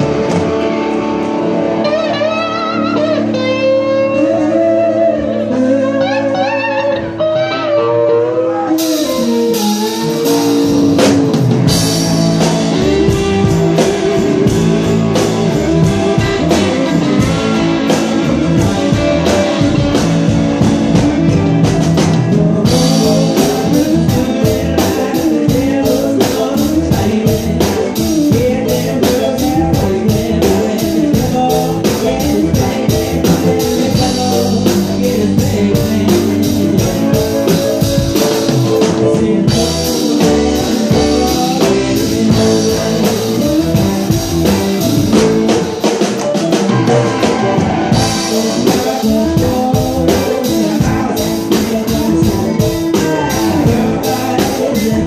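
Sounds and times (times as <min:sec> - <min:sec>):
guitar melody: 0:00.0 - 0:55.0
live band playing: 0:00.0 - 0:55.0
drums with cymbals: 0:08.8 - 0:55.0.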